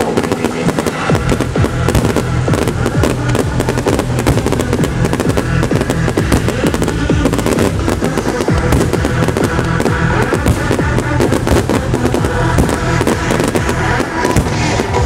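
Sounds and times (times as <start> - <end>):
fireworks popping and banging: 0.0 - 15.0
trance music over loudspeakers: 0.0 - 15.0.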